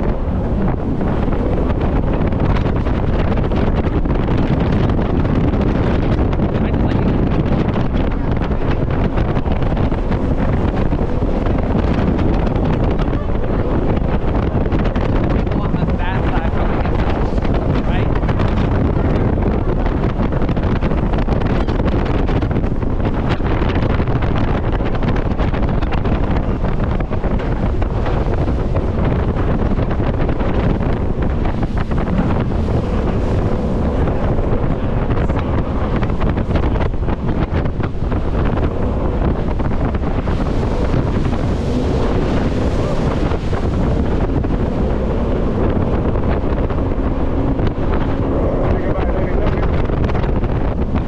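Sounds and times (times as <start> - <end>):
boat engine running: 0.0 - 51.0
rushing water: 0.0 - 51.0
wind buffeting microphone: 0.0 - 51.0.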